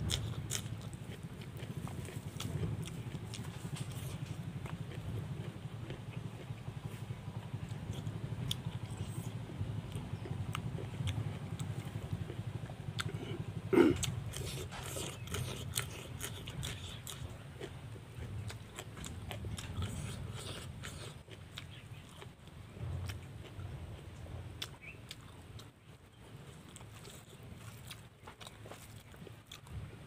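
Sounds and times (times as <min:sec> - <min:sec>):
person chewing: 0:00.0 - 0:23.8, 0:24.6 - 0:25.8, 0:26.4 - 0:29.8.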